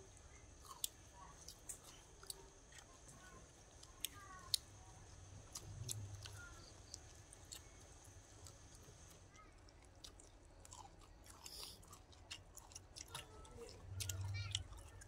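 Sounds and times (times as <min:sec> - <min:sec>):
people chewing and crunching: 0:00.0 - 0:15.0.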